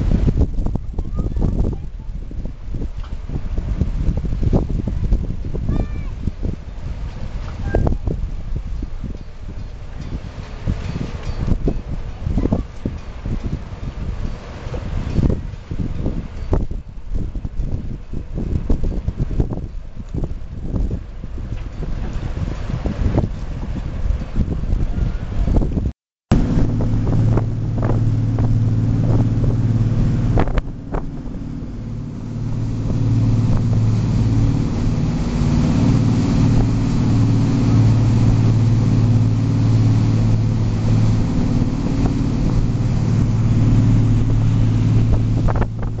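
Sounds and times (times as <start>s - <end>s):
ship engines droning: 0.0s - 17.7s, 26.3s - 46.0s
water rushing in wake: 0.0s - 46.0s
wind buffeting microphone: 0.0s - 46.0s.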